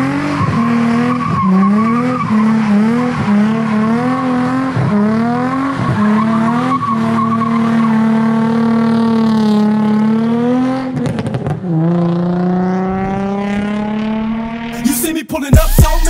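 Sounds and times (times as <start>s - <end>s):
car engine at high revs: 0.0s - 15.0s
tires squealing on asphalt: 0.0s - 15.0s.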